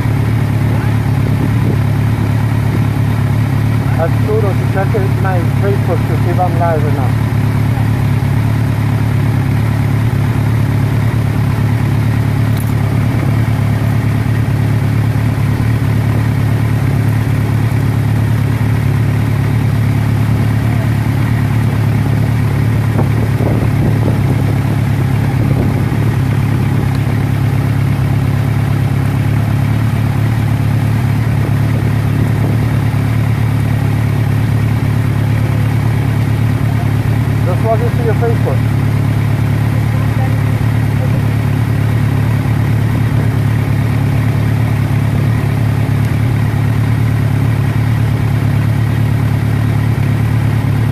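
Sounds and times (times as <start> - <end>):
engine idling: 0.0 - 50.9.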